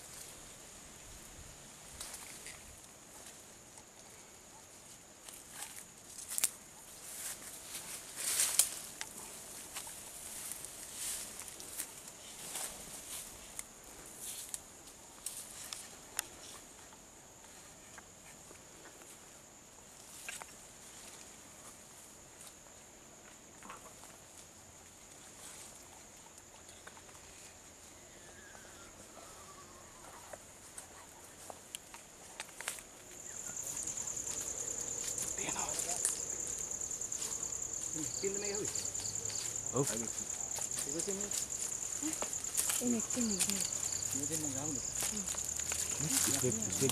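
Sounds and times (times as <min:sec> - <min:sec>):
insect drone: 0:00.0 - 0:46.9
leaves and grass rustling: 0:00.0 - 0:46.9.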